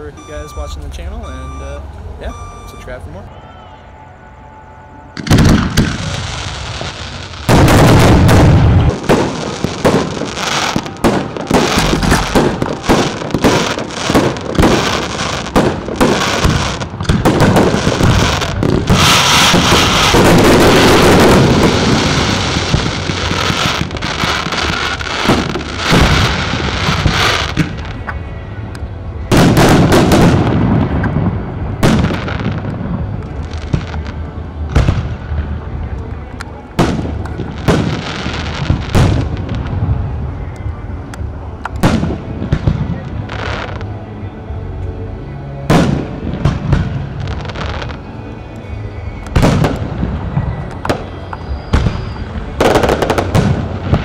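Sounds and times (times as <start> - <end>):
fireworks bangs and crackles: 5.1 - 54.0.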